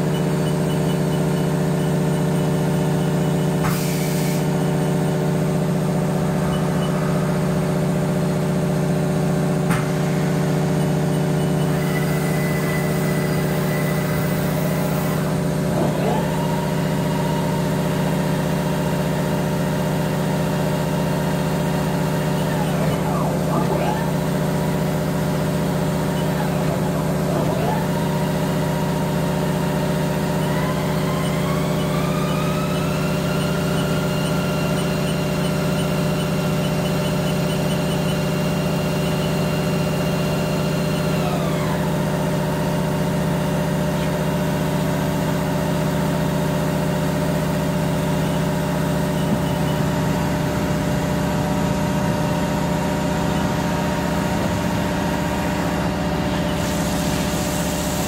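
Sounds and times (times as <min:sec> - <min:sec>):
milling machine hum: 0:00.0 - 0:58.0
spindle whine: 0:00.0 - 0:58.0.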